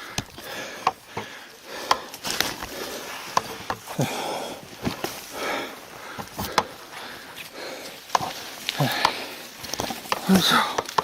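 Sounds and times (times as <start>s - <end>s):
brush rustling: 0.0s - 11.0s
hard breathing: 0.0s - 11.0s
twigs snapping: 0.0s - 11.0s
footsteps crunching through undergrowth: 2.0s - 11.0s.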